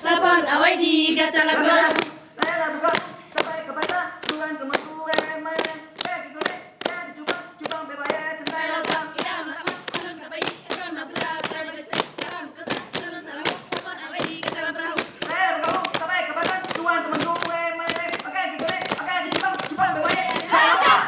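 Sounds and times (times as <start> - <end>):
group chanting in unison: 0.0 - 21.0
hands clapping and striking bodies: 1.9 - 21.0.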